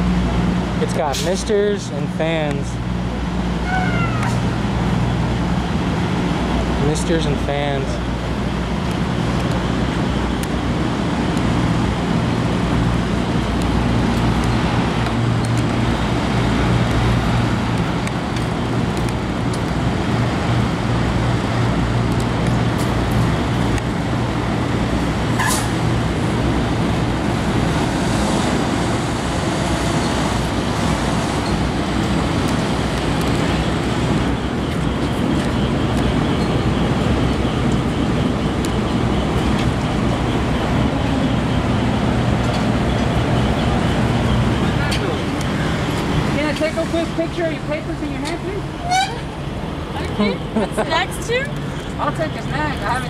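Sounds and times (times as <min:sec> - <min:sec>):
machinery droning: 0:00.0 - 0:53.0.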